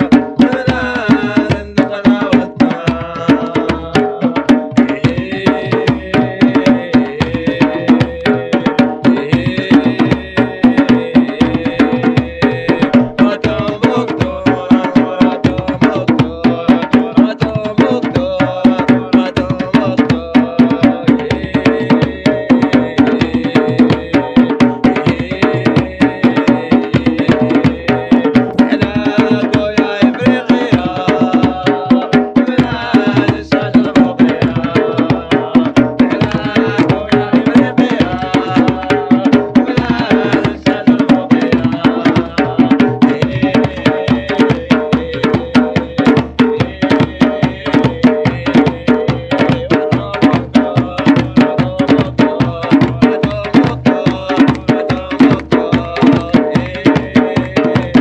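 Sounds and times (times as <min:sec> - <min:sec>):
hand drums playing fast rhythm: 0:00.0 - 0:58.0.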